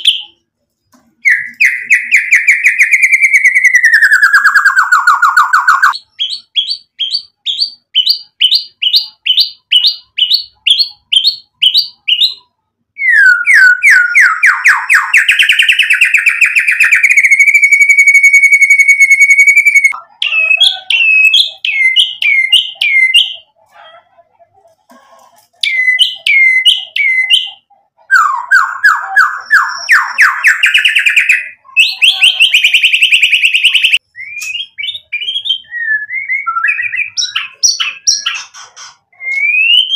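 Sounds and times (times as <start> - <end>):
songbird singing whistles and trills: 1.2 - 23.4, 25.6 - 38.4, 39.2 - 39.9.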